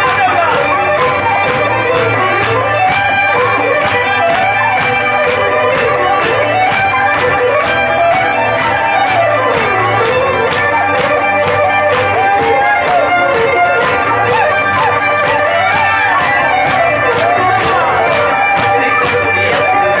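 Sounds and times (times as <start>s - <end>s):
bagpipes: 0.0s - 20.0s
fiddles playing melody: 0.0s - 20.0s
regular beat: 0.0s - 20.0s.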